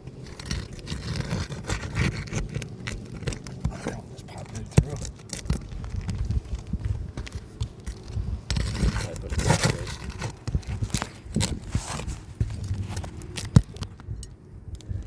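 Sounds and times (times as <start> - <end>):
tool scraping roof shingles: 0.0 - 14.1.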